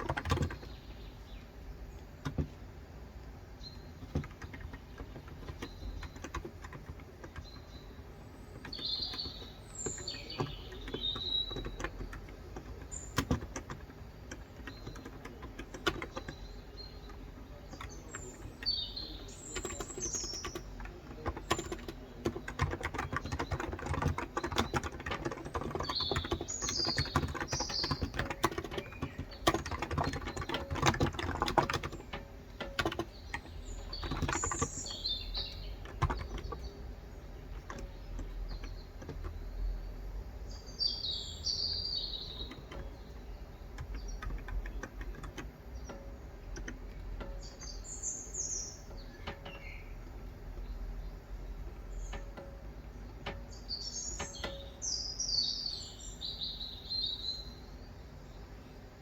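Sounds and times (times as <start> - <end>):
typing on a keyboard: 0.0 - 0.9, 2.2 - 2.7, 3.8 - 40.1, 42.0 - 47.8, 48.7 - 54.8
birds chirping: 0.0 - 59.0.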